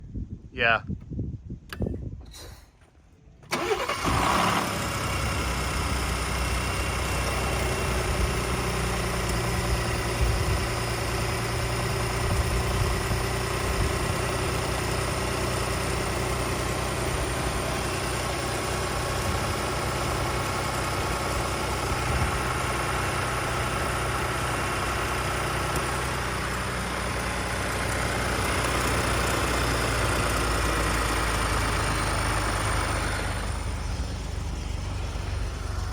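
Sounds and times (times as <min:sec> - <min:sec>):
truck engine starting and idling: 0:01.6 - 0:35.9.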